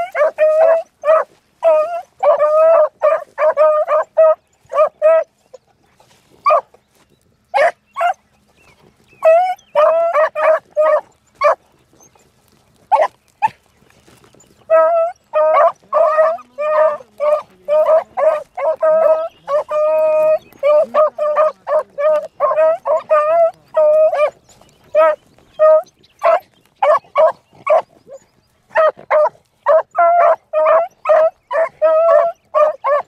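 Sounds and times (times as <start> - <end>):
hounds barking: 0.0 - 6.8, 7.5 - 33.0.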